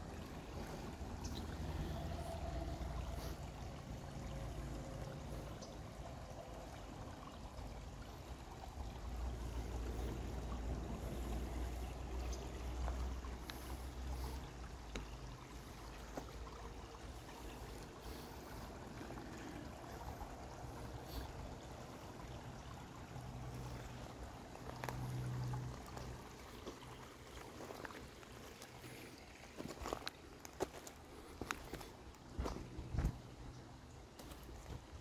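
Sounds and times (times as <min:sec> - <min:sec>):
creek trickling over rocks: 0:00.0 - 0:35.0.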